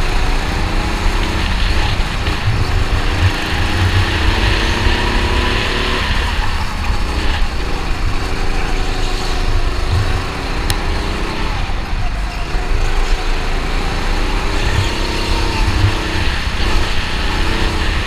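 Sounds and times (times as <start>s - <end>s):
go-kart engine revving: 0.0s - 18.0s.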